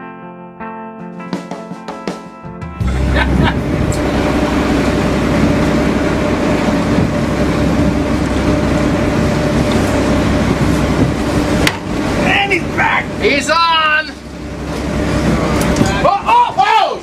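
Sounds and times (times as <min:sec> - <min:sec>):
boat engine humming: 0:02.7 - 0:17.0
wind and water rushing: 0:02.8 - 0:17.0.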